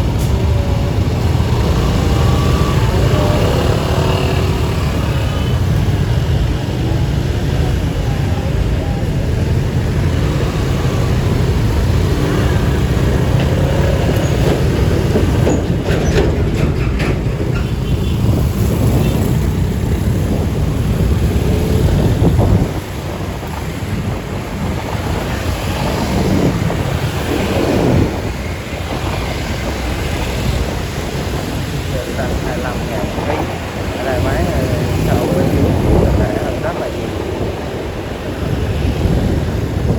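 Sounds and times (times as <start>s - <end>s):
vehicle low rumble: 0.0s - 39.9s.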